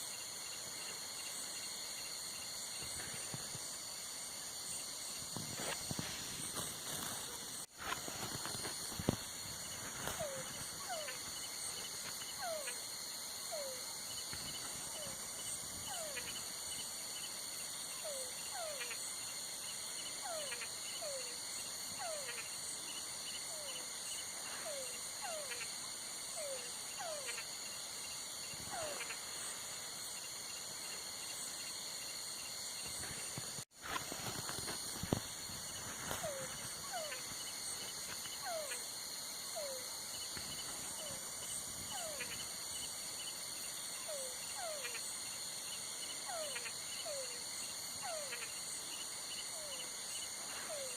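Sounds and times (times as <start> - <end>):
insects trilling: 0.0 - 50.9.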